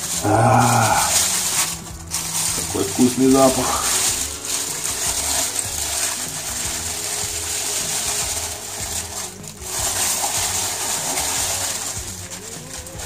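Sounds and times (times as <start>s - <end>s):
plastic bag rustling: 0.0s - 13.0s
quiet background music: 0.0s - 13.0s.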